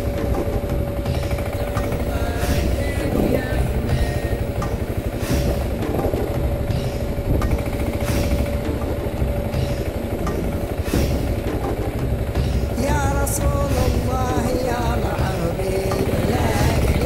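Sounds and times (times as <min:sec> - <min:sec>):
motorcycle engine thudding: 0:00.0 - 0:17.0
sharp knocks: 0:00.0 - 0:17.0.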